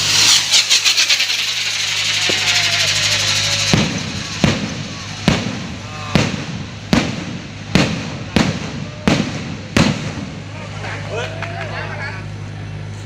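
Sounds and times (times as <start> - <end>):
fireworks bangs: 0.0 - 10.8
fireworks hissing crackle: 0.0 - 11.0.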